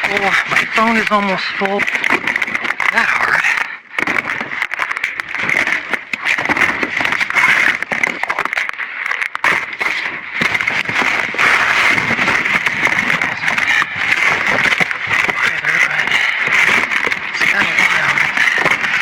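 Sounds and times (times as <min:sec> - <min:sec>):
debris crackling and rustling: 0:00.0 - 0:19.0
knocks and scrapes: 0:00.0 - 0:19.0.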